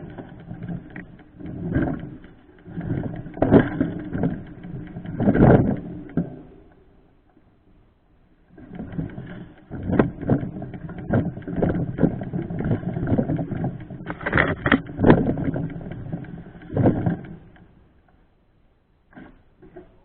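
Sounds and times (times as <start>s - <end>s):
mountain bike rattling on rough trail: 0.0s - 7.1s, 8.5s - 18.1s
continuous rumble: 0.0s - 20.0s.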